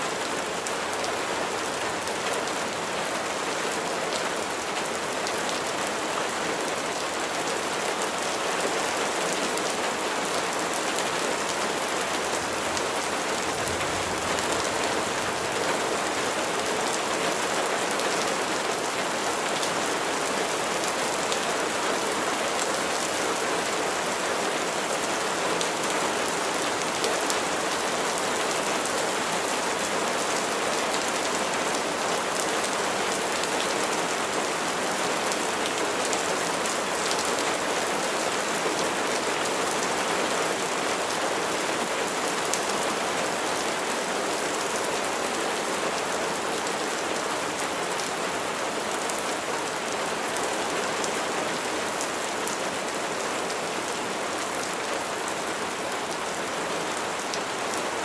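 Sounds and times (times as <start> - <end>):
rain pattering on a surface: 0.1 - 58.0.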